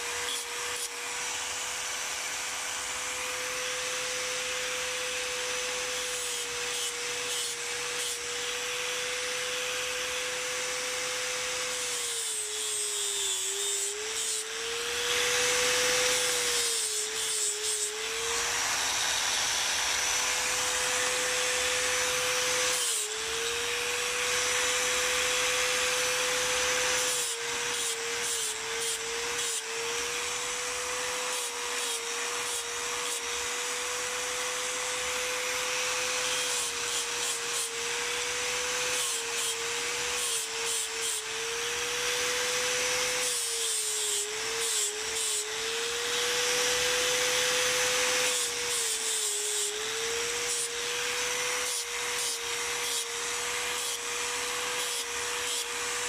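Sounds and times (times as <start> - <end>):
angle grinder whining: 0.0 - 56.0.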